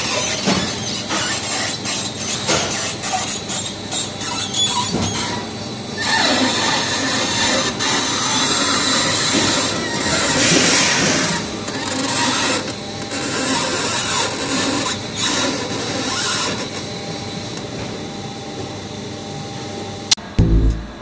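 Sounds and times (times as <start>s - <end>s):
industrial machinery clatter and hiss: 0.0s - 18.8s.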